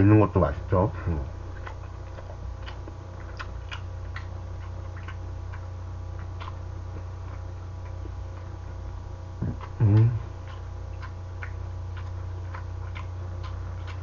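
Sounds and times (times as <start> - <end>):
low electrical hum: 0.0 - 14.0
mouth chewing clicks and smacks: 1.5 - 8.6, 9.4 - 14.0.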